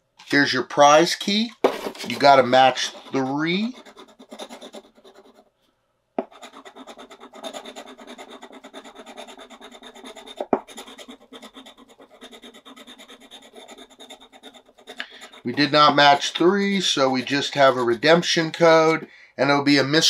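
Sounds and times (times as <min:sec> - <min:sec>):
scratching a scratch-off ticket: 0:01.6 - 0:05.4, 0:06.3 - 0:19.0.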